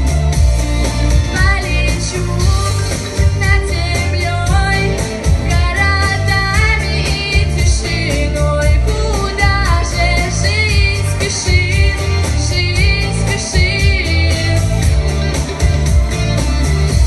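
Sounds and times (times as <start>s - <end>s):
pop backing track beat: 0.0s - 17.0s
woman singing: 1.2s - 15.2s.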